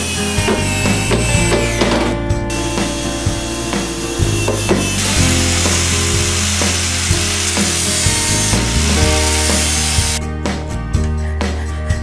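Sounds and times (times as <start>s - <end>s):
angle grinder grinding metal: 0.0s - 10.2s
background music: 0.0s - 12.0s.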